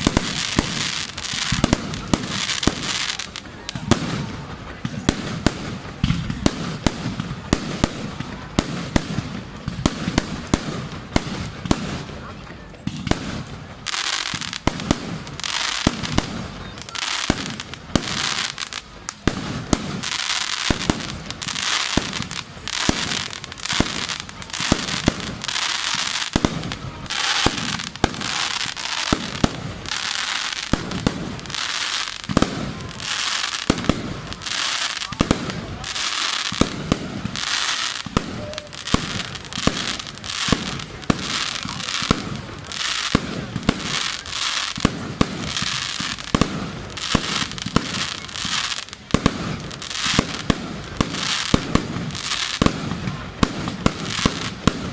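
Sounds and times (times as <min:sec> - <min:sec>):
firework crackling: 0:00.0 - 0:54.9.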